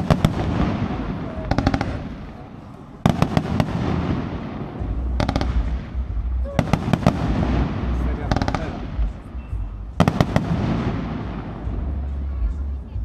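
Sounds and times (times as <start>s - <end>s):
fireworks bangs and crackles: 0.0s - 13.0s
fireworks rumble: 0.0s - 13.0s.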